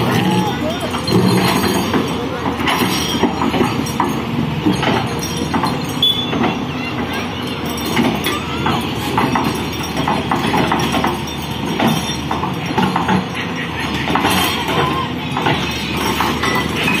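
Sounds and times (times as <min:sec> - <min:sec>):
heavy machinery running: 0:00.0 - 0:17.0
short knocks and clanks: 0:00.0 - 0:17.0.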